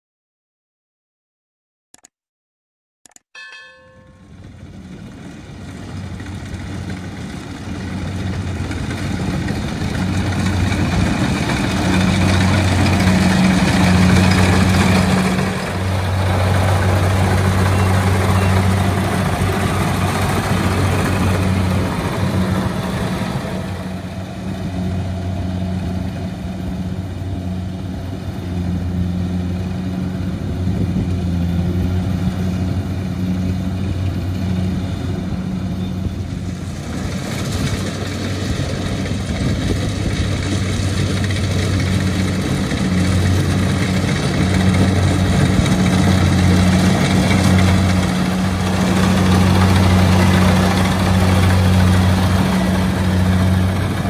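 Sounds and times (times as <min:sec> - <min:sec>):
diesel engine drone: 0:03.8 - 0:54.0.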